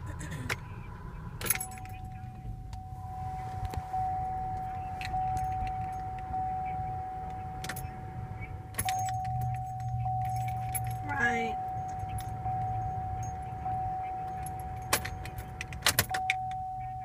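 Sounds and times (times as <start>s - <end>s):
car warning chime: 0.5s - 17.0s
keys jingling: 1.4s - 2.5s, 3.6s - 17.0s.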